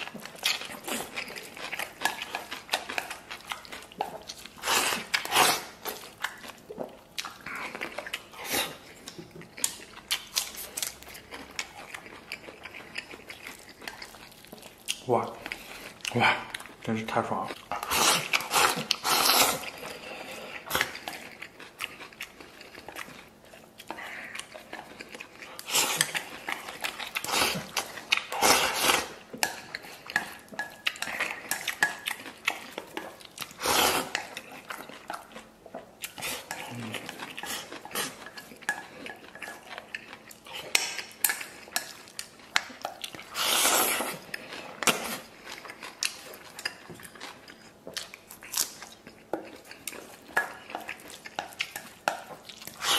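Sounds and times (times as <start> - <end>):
chewing: 0.0 - 52.9.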